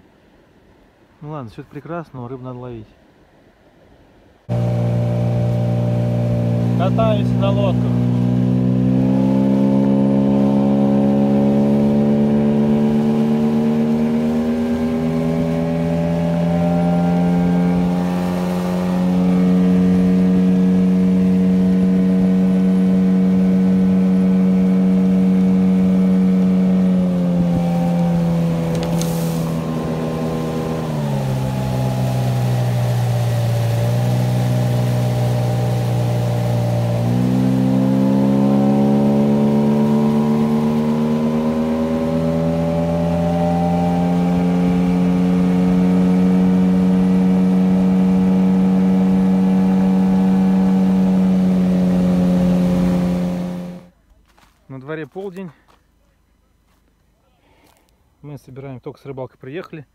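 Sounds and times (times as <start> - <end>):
two-stroke outboard motor running: 4.5 - 53.9.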